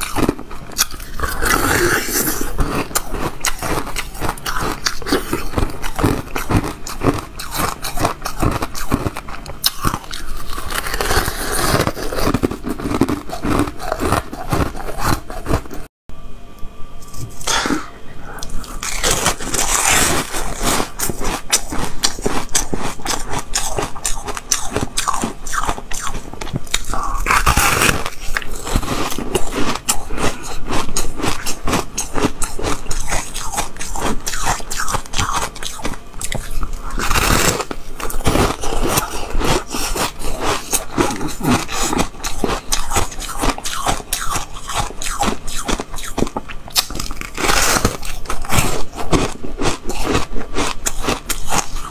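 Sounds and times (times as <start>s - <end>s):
crunching frozen ice: 0.0s - 15.7s, 18.6s - 51.9s.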